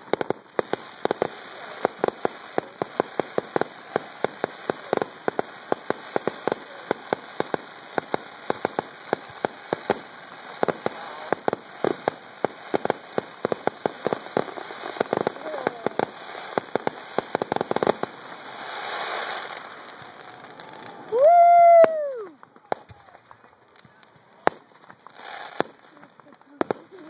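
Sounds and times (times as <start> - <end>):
fireworks popping and crackling: 0.0 - 27.0.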